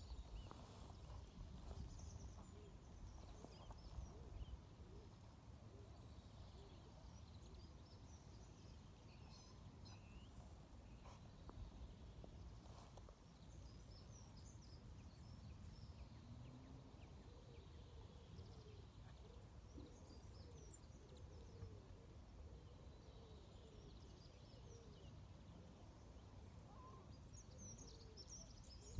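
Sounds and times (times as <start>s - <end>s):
songbirds chirping faintly: 0.0s - 28.9s.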